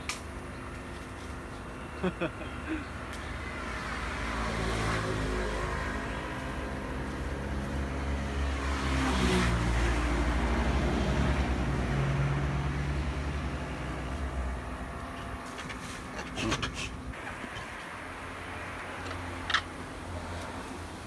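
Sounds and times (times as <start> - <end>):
highway traffic hum: 0.0 - 21.0
vehicle passing: 1.4 - 21.0.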